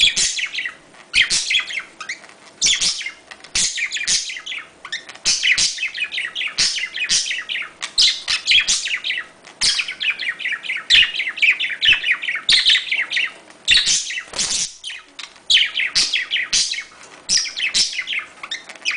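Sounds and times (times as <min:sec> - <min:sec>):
budgerigars chattering: 0:00.0 - 0:18.9.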